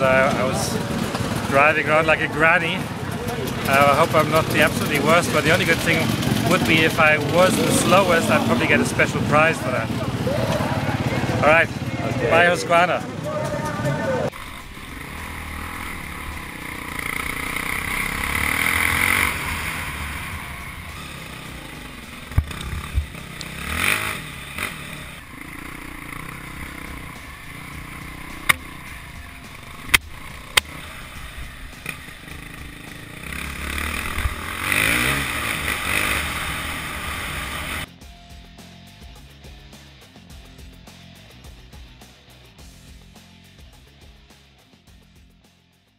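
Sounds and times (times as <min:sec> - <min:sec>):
motorcycle engine revving: 0:00.0 - 0:45.3.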